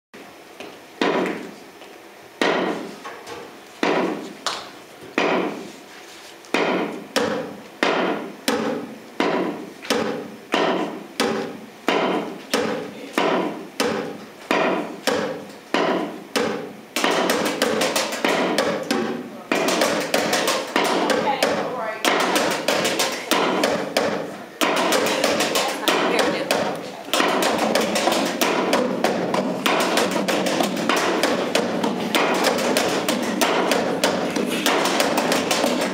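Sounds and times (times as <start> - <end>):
wooden poles knocking on stage floor: 6.6 - 35.9.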